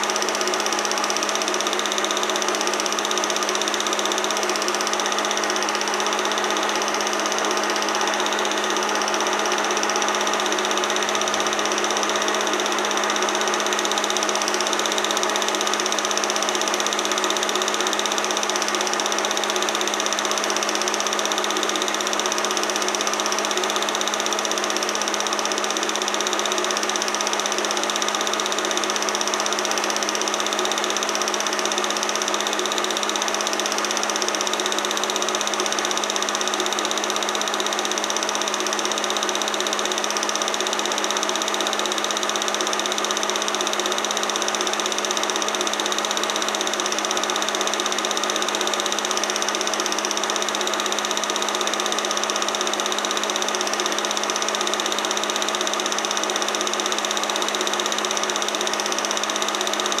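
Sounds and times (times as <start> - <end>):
film projector whirring: 0.0 - 60.0.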